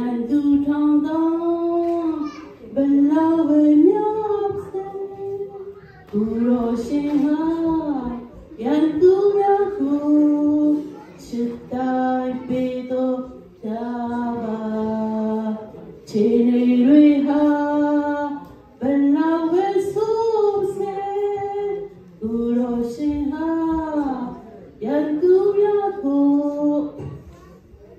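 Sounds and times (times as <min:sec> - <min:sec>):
woman singing into a microphone: 0:00.0 - 0:27.2.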